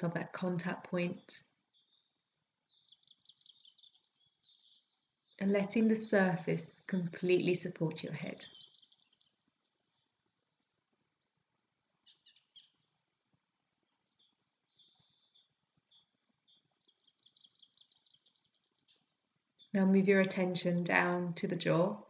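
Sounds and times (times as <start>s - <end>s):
birds chirping trills: 0.0s - 22.0s.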